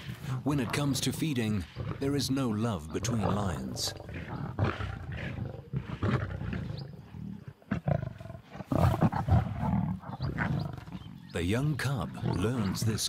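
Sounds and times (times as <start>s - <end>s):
lions growling: 0.0s - 13.0s.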